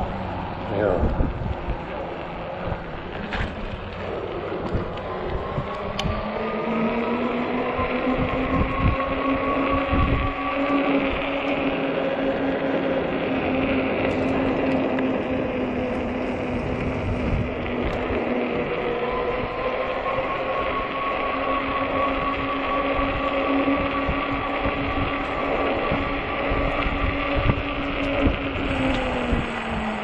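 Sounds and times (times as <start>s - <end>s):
electric motor whining: 0.0s - 30.0s
tyre noise: 0.0s - 30.0s
wind buffeting: 0.0s - 30.0s.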